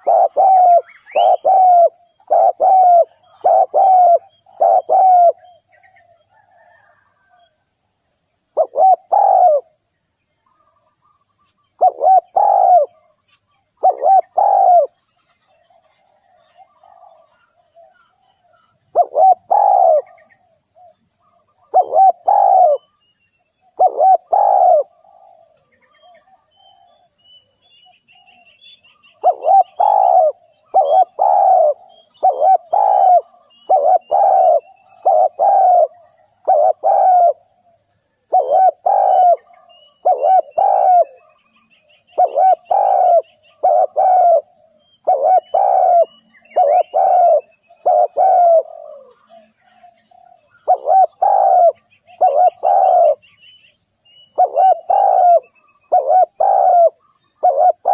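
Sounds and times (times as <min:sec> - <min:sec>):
dove cooing: 0:00.0 - 0:07.5, 0:08.5 - 0:09.8, 0:11.8 - 0:13.2, 0:13.8 - 0:15.0, 0:15.6 - 0:23.0, 0:23.6 - 0:27.1, 0:28.3 - 0:41.4, 0:42.0 - 0:53.2, 0:54.3 - 0:57.9.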